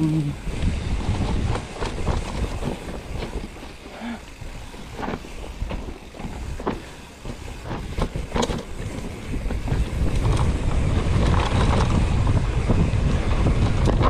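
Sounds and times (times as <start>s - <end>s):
bike rattling over rough ground: 0.0s - 14.0s
wind buffeting microphone: 0.0s - 14.0s.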